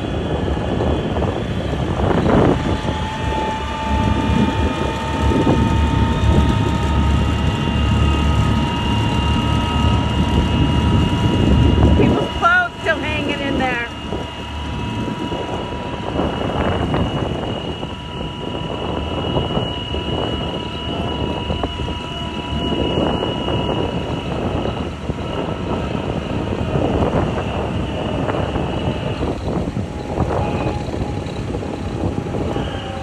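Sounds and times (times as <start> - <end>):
motor drone: 0.0 - 33.0
rushing wind noise: 0.0 - 33.0.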